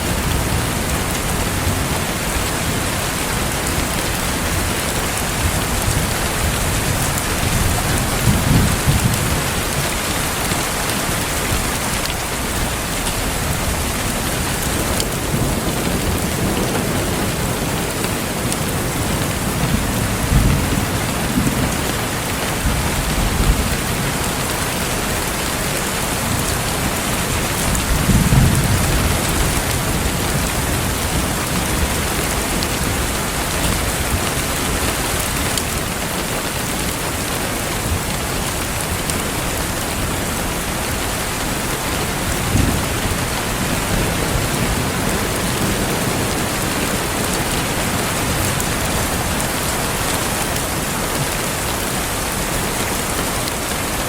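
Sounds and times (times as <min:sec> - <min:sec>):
thunder rumbling: 0:00.0 - 0:35.4, 0:36.7 - 0:51.7
steady rain falling: 0:00.0 - 0:54.0.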